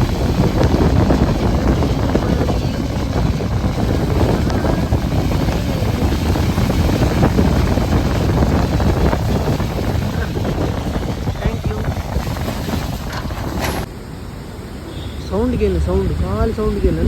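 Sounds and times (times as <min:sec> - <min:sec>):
wind buffeting microphone: 0:00.0 - 0:14.1, 0:15.2 - 0:17.0
loud rumbling noise: 0:00.0 - 0:17.0.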